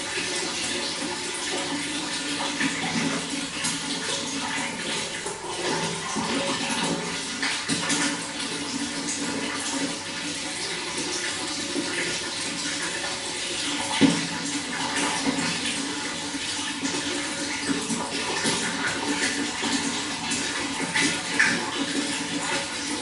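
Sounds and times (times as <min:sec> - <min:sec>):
running water splashing: 0:00.0 - 0:23.0.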